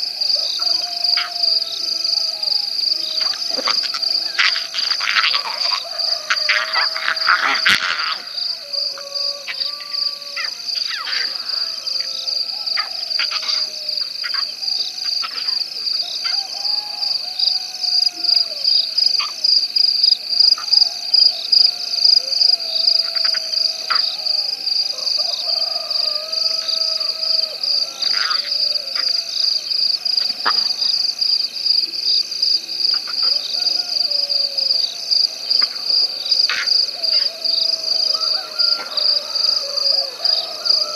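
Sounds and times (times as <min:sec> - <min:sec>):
frog calls: 0:00.0 - 0:40.9
insects pulsing trill: 0:00.0 - 0:40.9.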